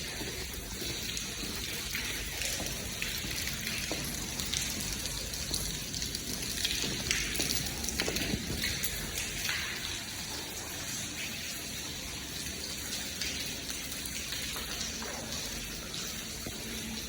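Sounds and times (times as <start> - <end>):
rainwater running and splashing: 0.0 - 17.0.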